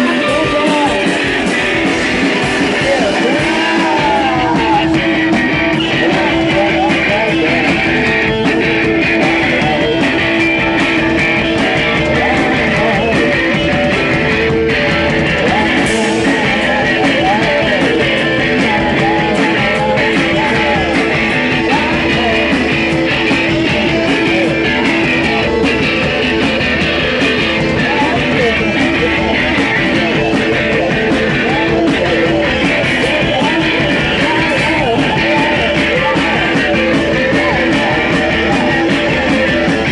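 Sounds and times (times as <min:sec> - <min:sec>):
electric guitar: 0:00.0 - 0:39.9
rock band playing live: 0:00.0 - 0:39.9.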